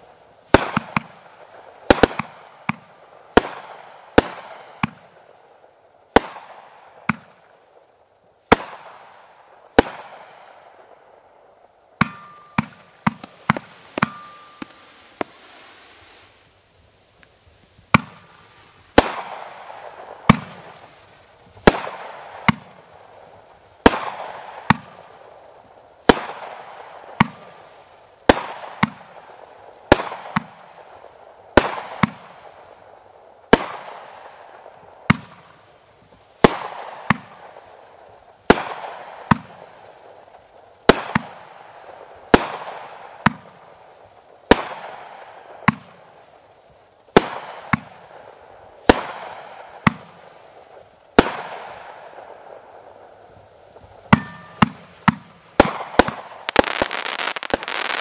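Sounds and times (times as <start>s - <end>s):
firework bangs: 0.0s - 5.3s, 6.1s - 7.7s, 8.5s - 11.1s, 12.0s - 16.5s, 17.4s - 25.4s, 26.0s - 32.8s, 33.5s - 37.8s, 38.4s - 46.2s, 47.1s - 58.0s
hiss of bursting stars: 0.0s - 58.0s.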